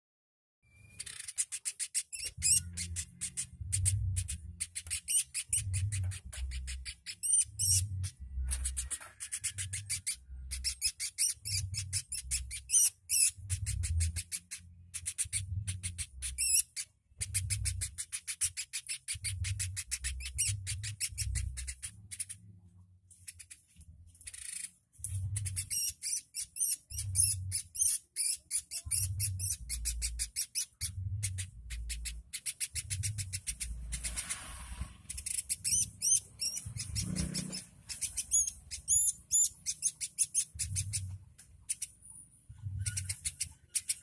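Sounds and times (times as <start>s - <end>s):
woodpecker rattling trills: 0.8s - 22.4s, 25.4s - 34.2s, 35.1s - 44.0s.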